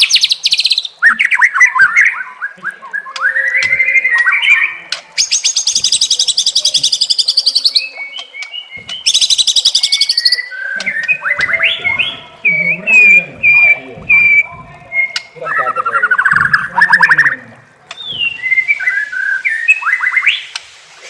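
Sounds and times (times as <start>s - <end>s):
songbird singing: 0.0s - 20.7s.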